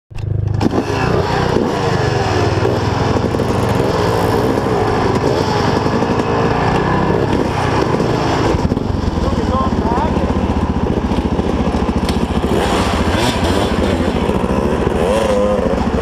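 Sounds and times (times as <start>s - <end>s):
dirt bike engines idling: 0.2s - 16.0s.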